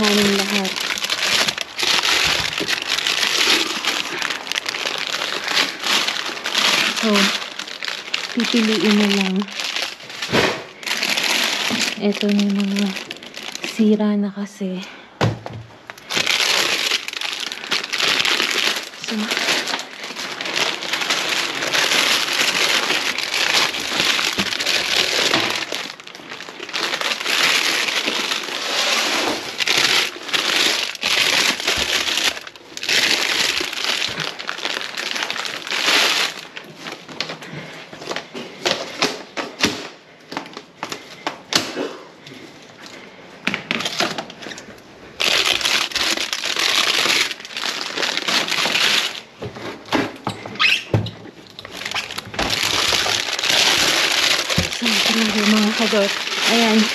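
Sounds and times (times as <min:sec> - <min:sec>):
plastic bags rustling and crinkling: 0:00.0 - 0:56.9.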